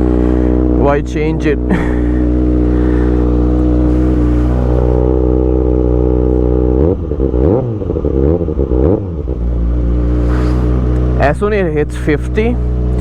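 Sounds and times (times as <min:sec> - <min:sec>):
engine throttle blips: 0:00.0 - 0:13.0
motorcycle engine idling: 0:00.0 - 0:13.0.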